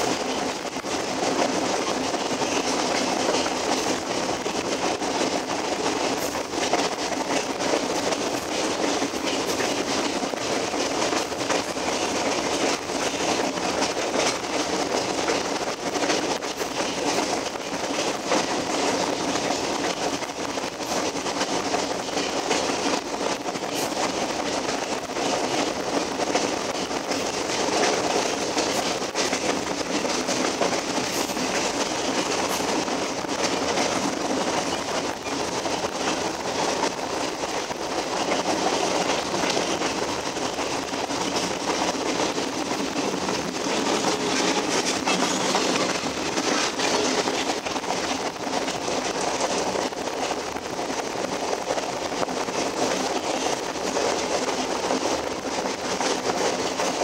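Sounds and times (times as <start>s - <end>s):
train wheels rushing on rails: 0.0s - 57.0s.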